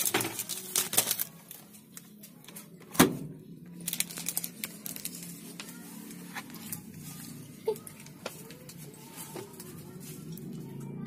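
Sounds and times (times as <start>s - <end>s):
paper and plastic crinkling: 0.0s - 2.9s, 3.7s - 10.8s.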